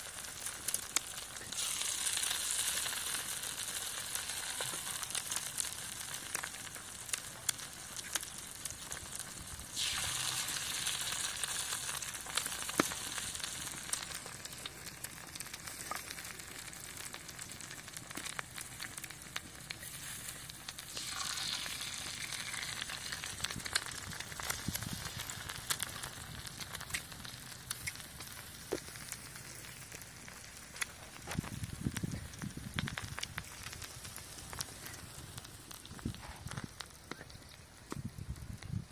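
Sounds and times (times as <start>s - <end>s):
eggs sizzling on griddle: 0.0s - 38.9s
oil crackling pops: 0.1s - 38.8s.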